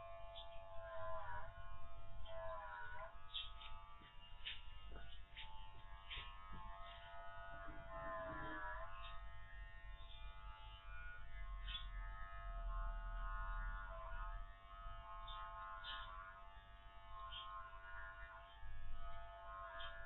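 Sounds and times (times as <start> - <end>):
electric clipper buzzing: 0.0 - 20.0.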